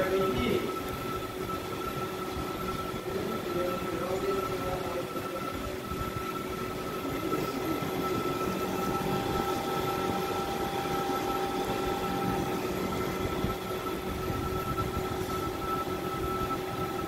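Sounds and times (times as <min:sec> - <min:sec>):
electric pump motor humming: 0:00.0 - 0:17.0.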